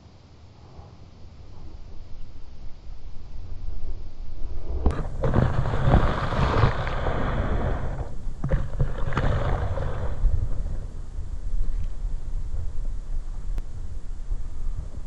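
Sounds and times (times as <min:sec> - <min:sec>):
low rumble of water: 0:00.0 - 0:15.0
rushing hiss: 0:00.4 - 0:15.0.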